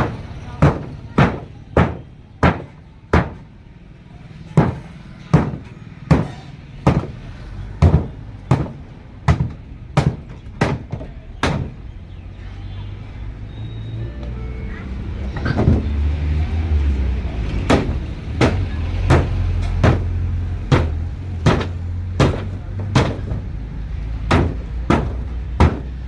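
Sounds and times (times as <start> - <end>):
heavy blows on metal refrigerator: 0.0 - 3.7, 4.4 - 12.2, 15.2 - 26.0.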